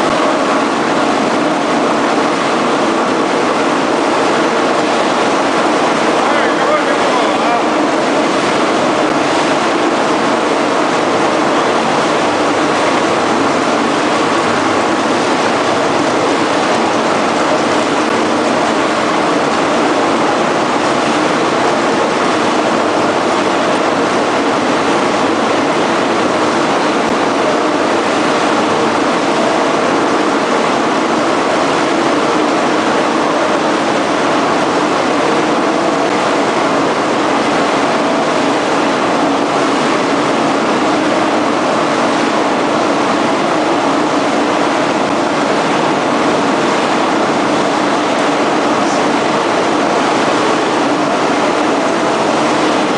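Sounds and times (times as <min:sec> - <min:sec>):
factory machinery running: 0:00.0 - 0:52.9.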